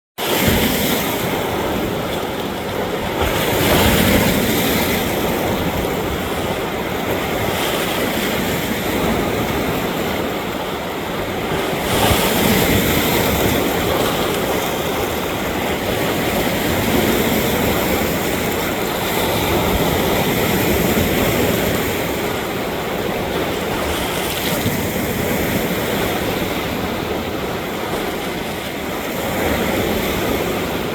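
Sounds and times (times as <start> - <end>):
lake waves washing against rock: 0.2 - 30.9.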